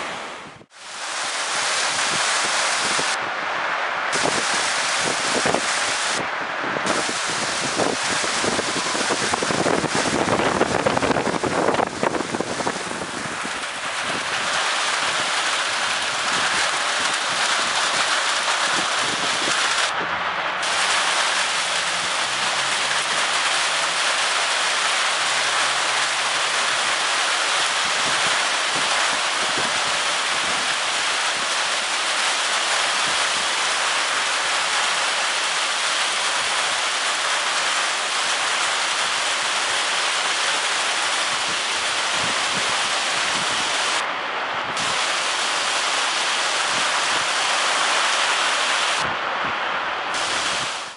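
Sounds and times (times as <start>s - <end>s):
heavy rain in high winds: 0.0s - 50.9s.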